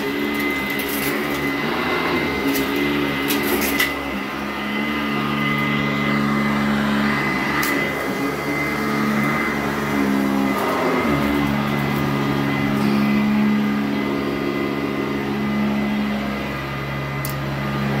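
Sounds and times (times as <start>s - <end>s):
upright vacuum whining: 0.0s - 18.0s.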